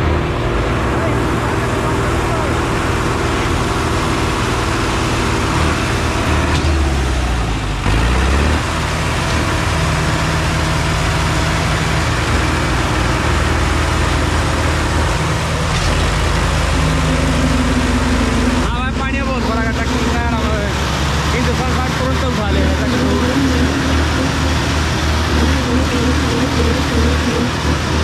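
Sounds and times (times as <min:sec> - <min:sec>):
diesel tractor engines running: 0:00.0 - 0:28.0.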